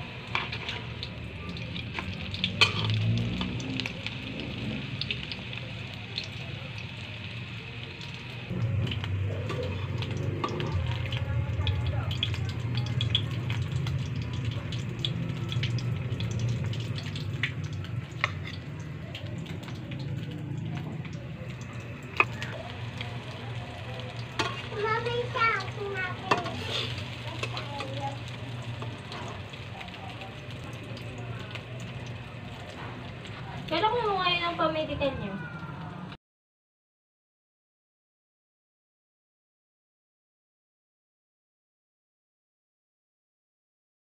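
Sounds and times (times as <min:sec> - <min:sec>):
frying hiss in hot oil: 0:00.0 - 0:36.1.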